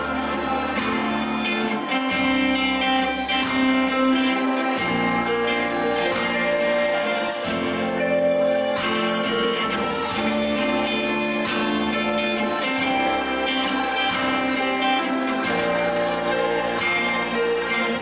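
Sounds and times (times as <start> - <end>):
live worship band music: 0.0 - 18.0.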